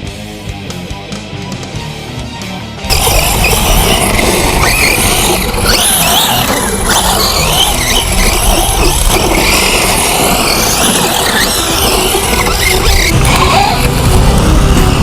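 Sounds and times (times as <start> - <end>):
steady rush of noise: 2.6 - 15.0
electric rc truck motor whine: 2.8 - 15.0.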